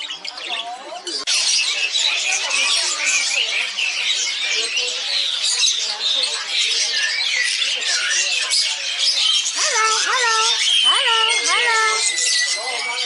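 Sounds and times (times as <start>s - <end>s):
caged birds chirping and squawking: 0.0s - 13.0s.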